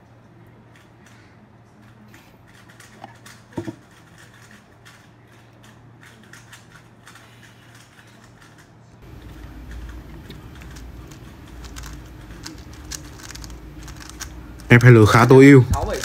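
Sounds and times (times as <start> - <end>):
steady low hum: 0.0 - 16.0
speed cube clicking: 2.5 - 16.0.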